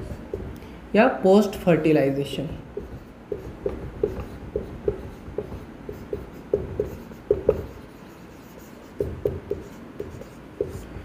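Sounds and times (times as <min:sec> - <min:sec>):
marker squeaking on whiteboard: 0:00.0 - 0:00.6, 0:02.7 - 0:11.0.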